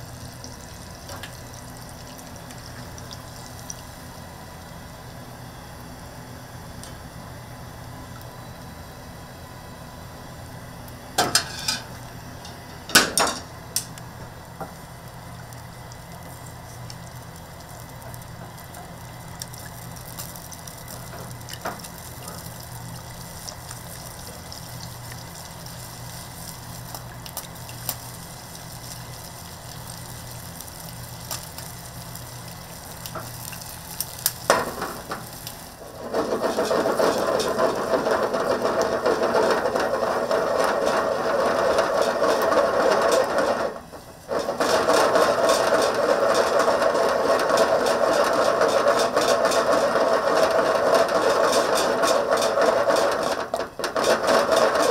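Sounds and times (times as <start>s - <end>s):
kitchen equipment whirring: 0.0s - 54.9s
kitchen hum: 0.0s - 54.9s.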